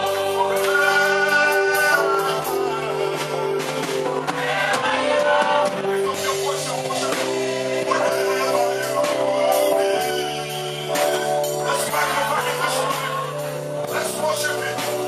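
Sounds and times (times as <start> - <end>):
held instrumental chords: 0.0 - 15.0
percussion strikes: 0.0 - 15.0
voices singing worship music: 0.0 - 15.0.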